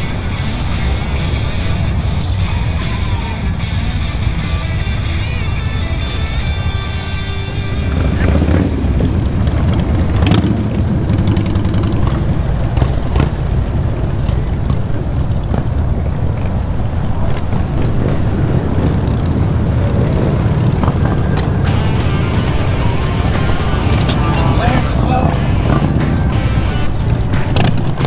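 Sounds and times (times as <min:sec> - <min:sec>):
motorcycles riding past: 0:00.0 - 0:28.0.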